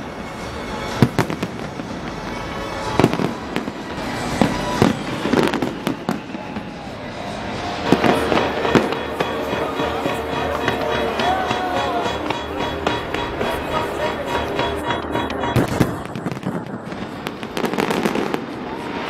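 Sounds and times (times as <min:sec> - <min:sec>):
continuous din: 0:00.0 - 0:19.0
fireworks bangs: 0:00.0 - 0:19.0.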